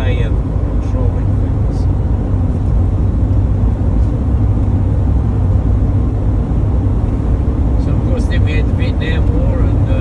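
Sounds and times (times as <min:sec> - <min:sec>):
van engine and road rumble: 0:00.0 - 0:10.0.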